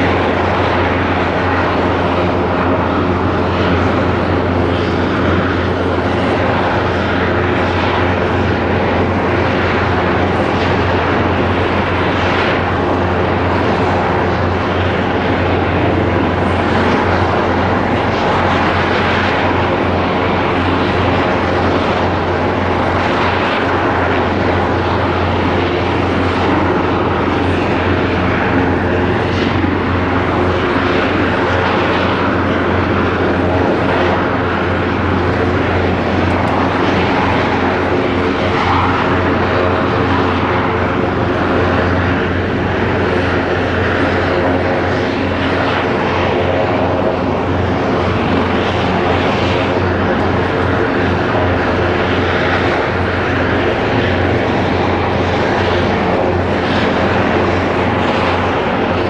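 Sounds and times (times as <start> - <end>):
helicopter engines and rotors: 0.0 - 59.0.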